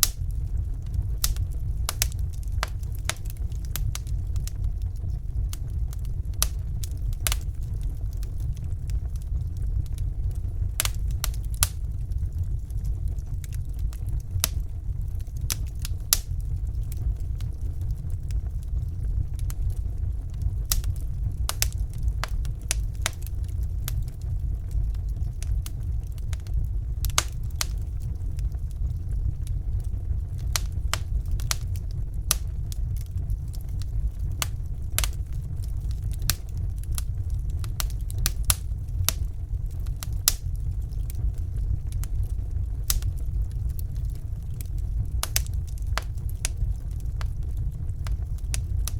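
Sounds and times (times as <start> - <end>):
low rumble of flames: 0.0 - 48.9
wood fire crackling: 0.0 - 48.9.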